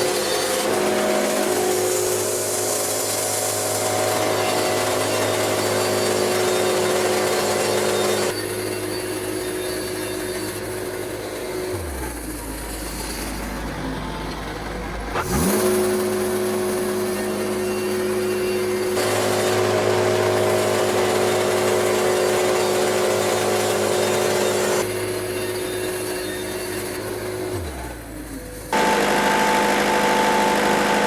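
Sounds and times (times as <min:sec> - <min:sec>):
band saw cutting log: 0:00.0 - 0:13.3, 0:15.1 - 0:28.1, 0:28.7 - 0:31.0
sawmill engine running: 0:00.0 - 0:31.0.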